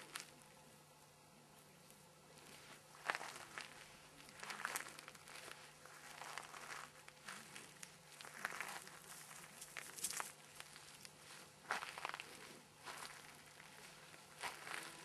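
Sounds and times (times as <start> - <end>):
crunching in dry grass and leaves: 0.0 - 0.4, 2.3 - 15.0.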